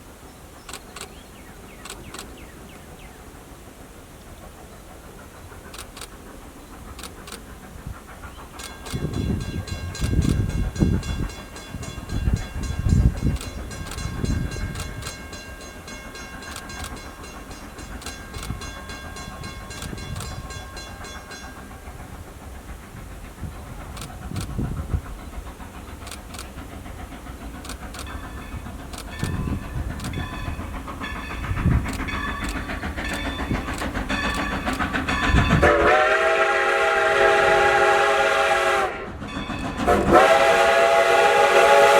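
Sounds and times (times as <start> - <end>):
steam locomotive exhaust chuffs: 0.0 - 41.9.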